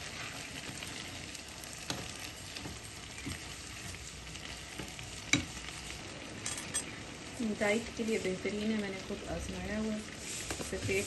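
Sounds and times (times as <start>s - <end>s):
chickpeas sizzling in oil: 0.0s - 11.0s.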